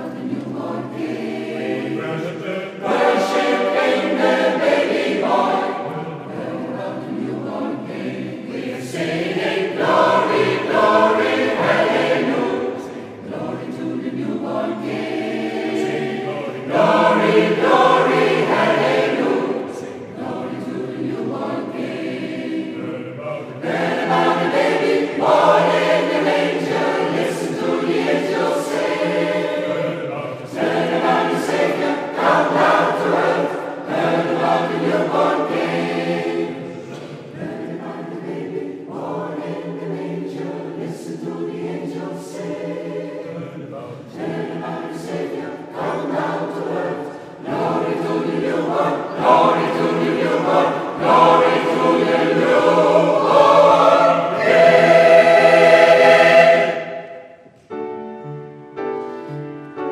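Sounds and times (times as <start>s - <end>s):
mixed choir singing: 0.0s - 57.9s.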